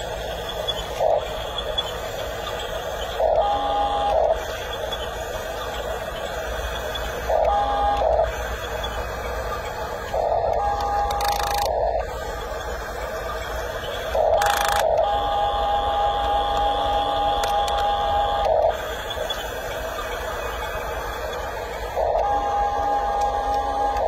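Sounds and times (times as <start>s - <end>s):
toy bulldozer motors whining: 0.0s - 24.0s.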